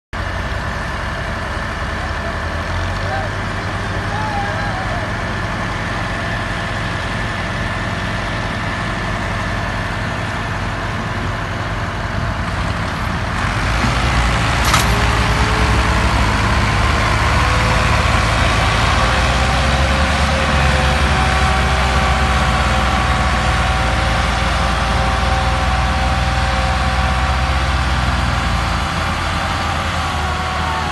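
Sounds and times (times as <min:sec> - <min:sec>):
tractor diesel engines under load: 0:00.2 - 0:30.9.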